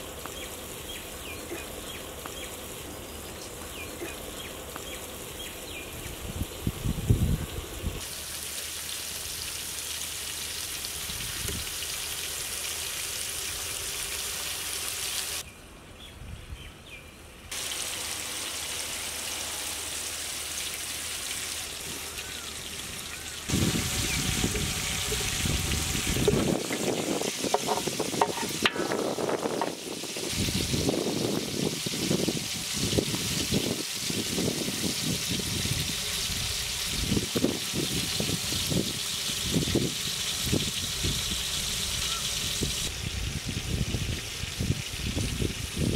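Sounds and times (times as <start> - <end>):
fish sizzling in hot oil: 6.4 - 15.4, 17.5 - 45.9.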